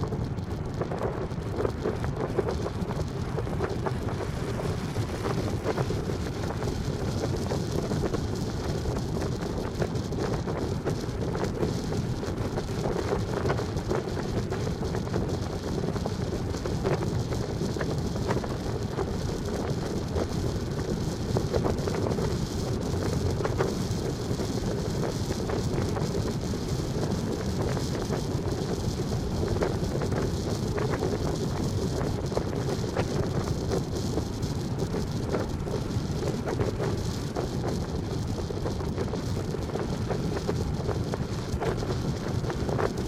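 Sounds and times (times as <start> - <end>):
faint crackles: 0.0 - 43.0
wind rumble on microphone: 0.0 - 43.0.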